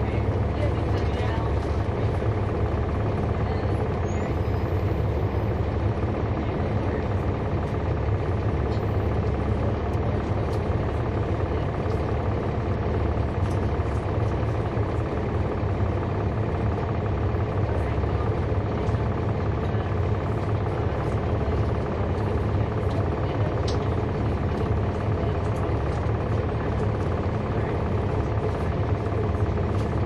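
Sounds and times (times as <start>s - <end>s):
bus diesel engine droning: 0.0s - 30.0s.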